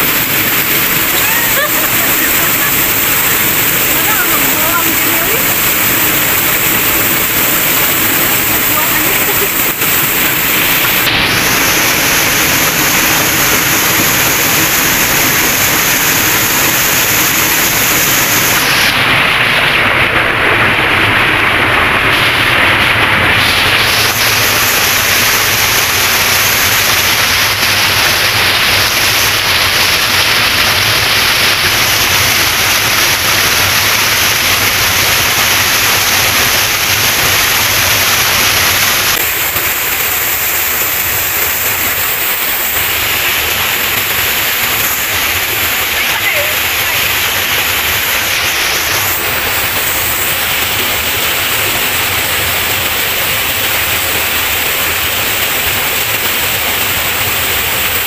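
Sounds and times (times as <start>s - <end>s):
waterfall pouring onto rocks: 0.0s - 58.0s.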